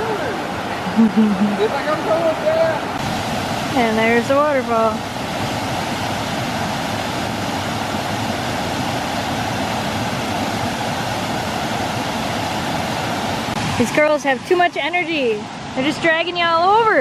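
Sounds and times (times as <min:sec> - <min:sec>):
waterfall rushing over rocks: 0:00.0 - 0:00.9, 0:01.5 - 0:17.0.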